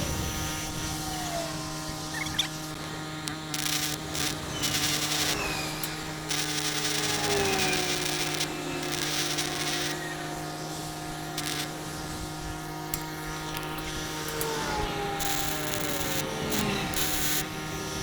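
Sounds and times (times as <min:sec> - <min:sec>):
harsh hissing metalwork noise: 0:00.0 - 0:18.0
steady machine hum: 0:00.0 - 0:18.0.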